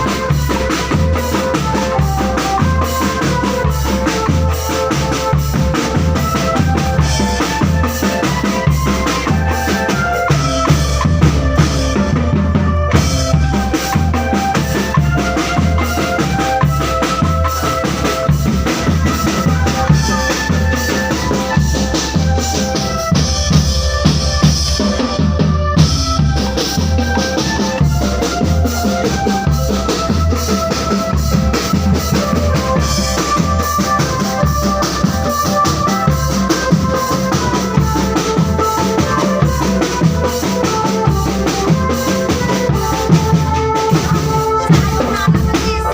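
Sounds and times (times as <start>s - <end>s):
marching drum band: 0.0s - 45.9s
melody over drumming: 0.0s - 45.9s.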